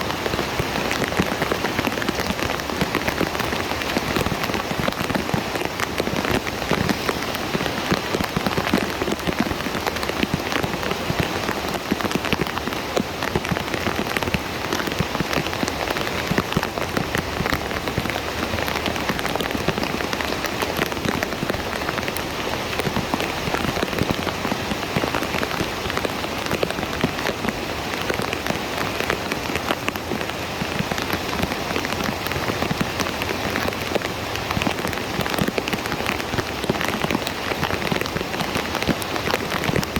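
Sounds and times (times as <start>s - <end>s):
heavy rain on a street: 0.0s - 39.9s.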